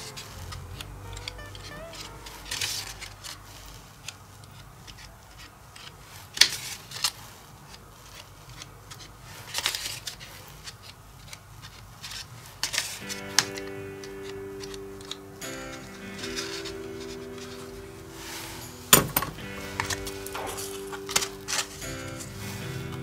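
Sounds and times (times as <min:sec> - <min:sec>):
cardstock rustling and scraping: 0:00.0 - 0:23.0.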